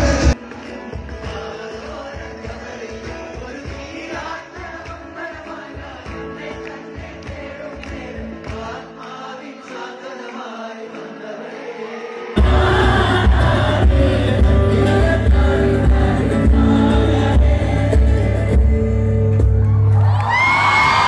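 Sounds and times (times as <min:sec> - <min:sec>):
live band playing chords: 0:00.0 - 0:09.9, 0:12.2 - 0:21.0
several voices singing: 0:00.0 - 0:19.6.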